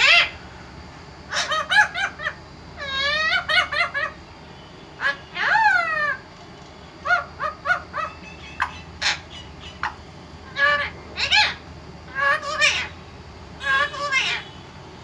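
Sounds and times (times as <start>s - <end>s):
parrot squawking and chirping: 0.0s - 0.4s, 1.3s - 4.2s, 5.0s - 6.2s, 7.0s - 14.6s.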